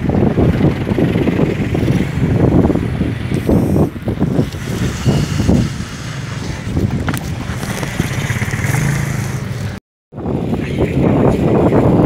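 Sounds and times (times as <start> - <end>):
vehicle engines in traffic: 0.0 - 12.0
wind on microphone: 0.0 - 12.0.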